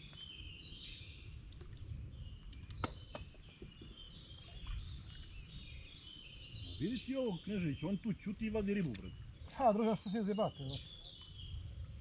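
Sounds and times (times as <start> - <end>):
birds singing and chirping: 0.0 - 12.0.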